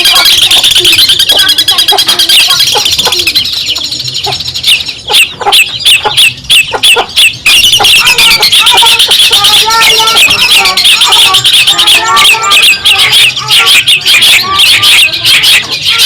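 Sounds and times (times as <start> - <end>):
harsh downward-slurred bird calls: 0.0 - 16.0
shrike twittering chatter: 0.0 - 16.0.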